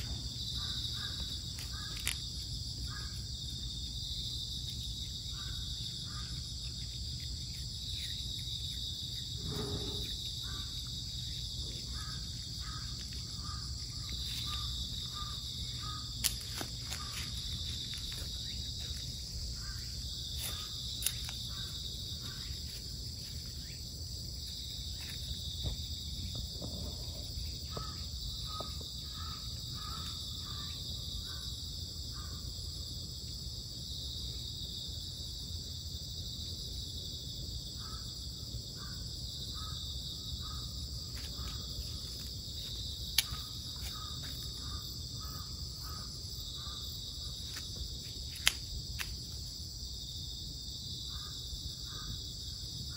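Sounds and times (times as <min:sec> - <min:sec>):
insect chorus shrilling: 0:00.0 - 0:52.9.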